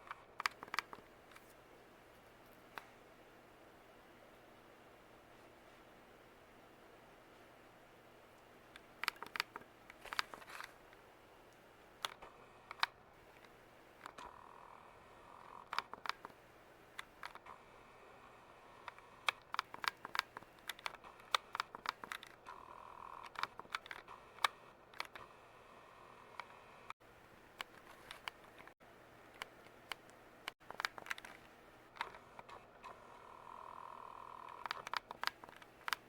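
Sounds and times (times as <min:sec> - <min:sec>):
faint background hum: 0:00.0 - 0:36.0.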